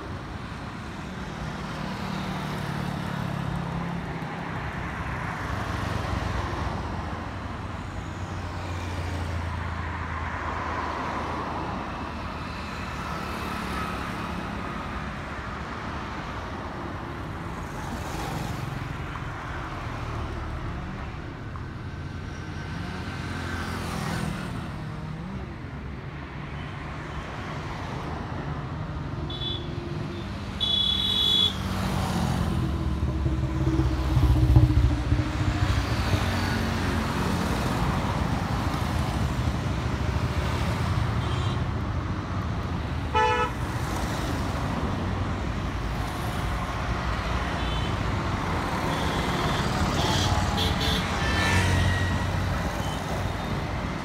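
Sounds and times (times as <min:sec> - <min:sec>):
cars and motorcycles passing: 0:00.0 - 0:54.0.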